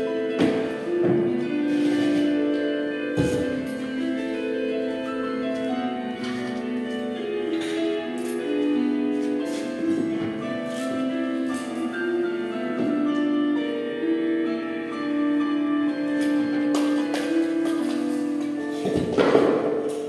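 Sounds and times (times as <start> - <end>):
held keyboard notes melody: 0.0 - 20.0.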